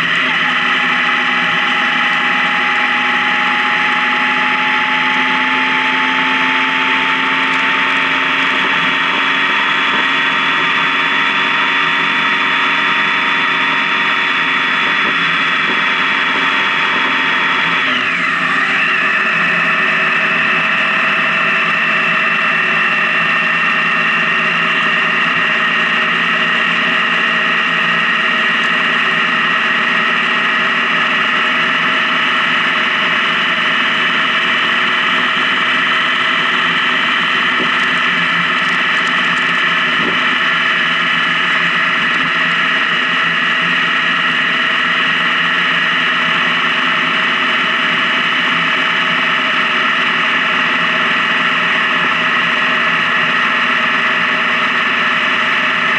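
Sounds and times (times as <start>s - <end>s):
motorcycle engine drone: 0.0s - 55.9s.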